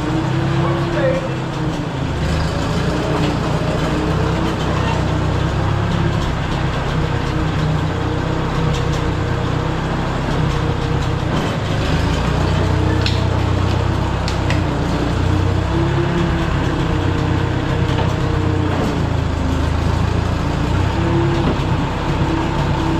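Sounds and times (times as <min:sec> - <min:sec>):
bulldozer engine droning: 0:00.0 - 0:22.9.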